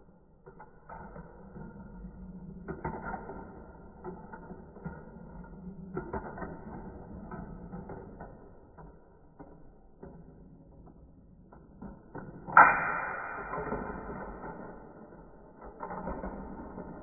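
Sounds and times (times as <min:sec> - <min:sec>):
marbles rolling on plastic track: 0:00.2 - 0:12.6, 0:13.4 - 0:17.0
marbles clicking and clacking: 0:00.2 - 0:17.0.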